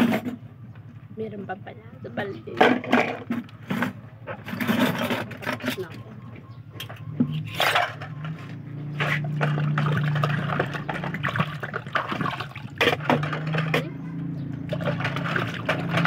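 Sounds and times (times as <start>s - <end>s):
water sloshing and splashing: 2.5s - 16.0s.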